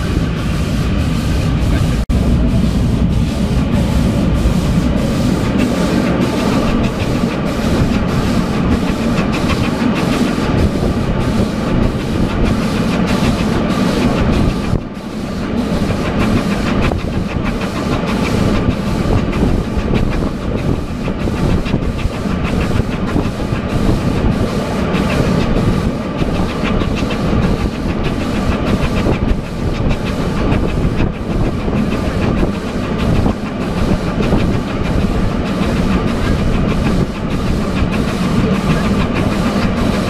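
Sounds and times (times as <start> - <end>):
train low rumble: 0.0 - 40.0
wheels clattering on rails: 4.7 - 40.0.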